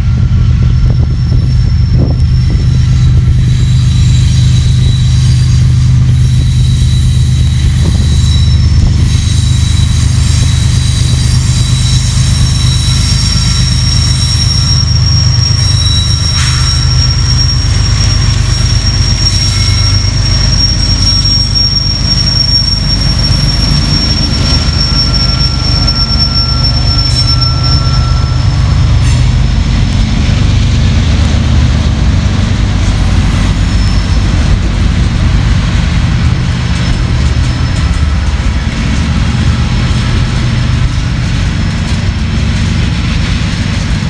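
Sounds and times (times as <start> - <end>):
locomotive engine drone: 0.0 - 44.0
high wheel squeal: 0.1 - 31.7, 32.9 - 35.0, 35.8 - 44.0.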